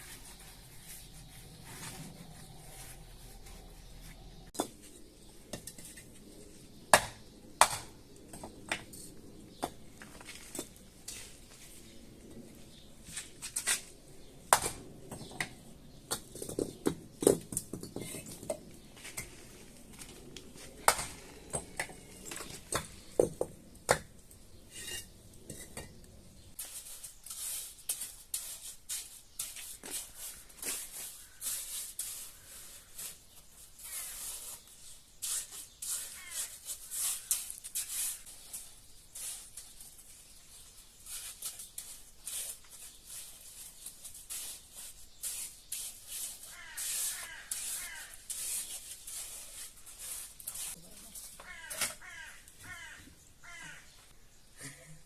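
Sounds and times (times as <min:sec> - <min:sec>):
scraping and rubbing building materials: 0:00.0 - 0:53.8.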